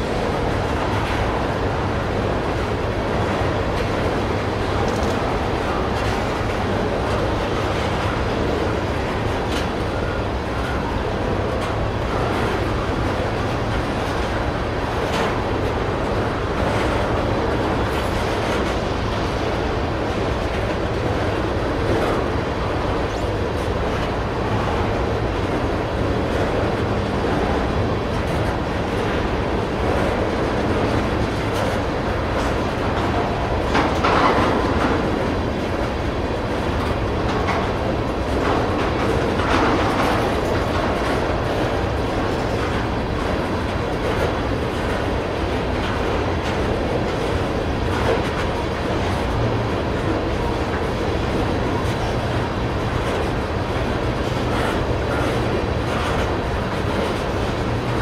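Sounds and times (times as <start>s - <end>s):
train wheels rumbling on rails: 0.0s - 58.0s
wheels clacking over rail joints: 4.7s - 58.0s.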